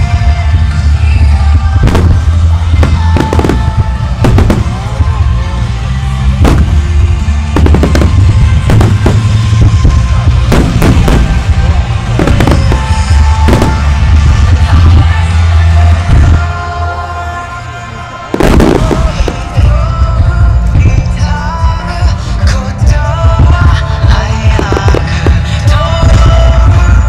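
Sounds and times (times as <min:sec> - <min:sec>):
music with heavy bass: 0:00.0 - 0:27.0.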